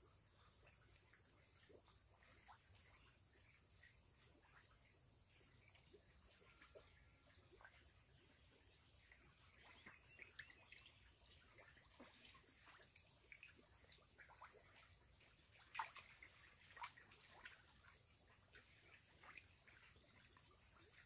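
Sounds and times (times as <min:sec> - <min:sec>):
water drips and splashes in tank: 0:00.0 - 0:21.0.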